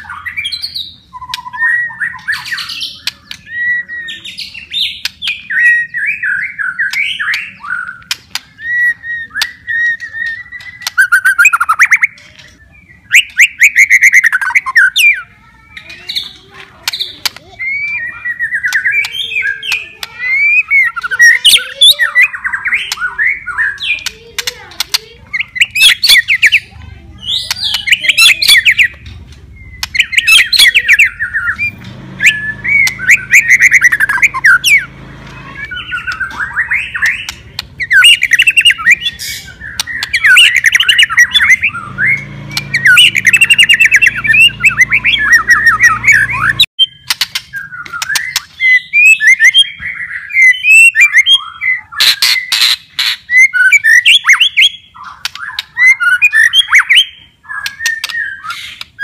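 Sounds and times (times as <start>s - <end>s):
songbird singing trills and whistles: 0.0s - 59.0s.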